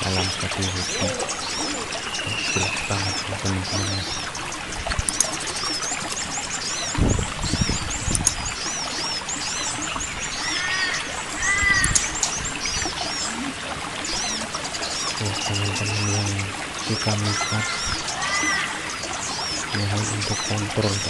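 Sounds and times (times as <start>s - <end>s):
birds chirping: 0.0s - 21.0s
low ringing bird calls: 0.0s - 21.0s
water trickling between rocks: 0.0s - 21.0s.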